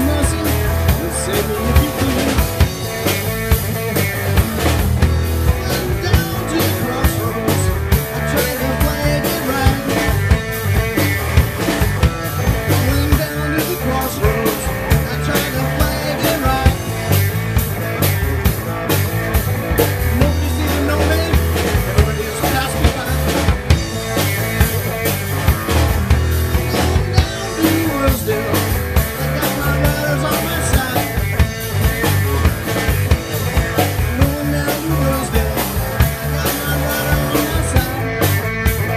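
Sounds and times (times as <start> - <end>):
drum kit beat: 0.0 - 38.9
electric guitar: 0.0 - 38.9
live rock band playing: 0.0 - 38.9.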